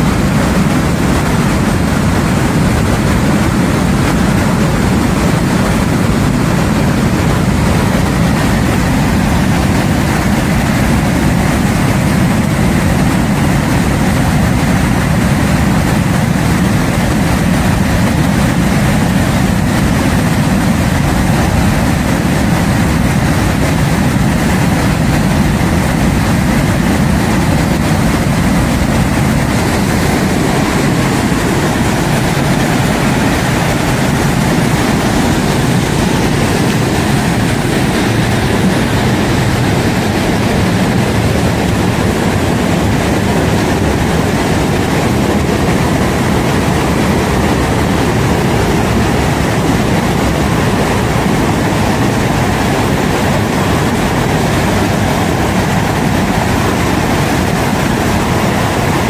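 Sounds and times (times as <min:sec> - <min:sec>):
floodwater rushing over rocks: 0:00.0 - 0:59.0.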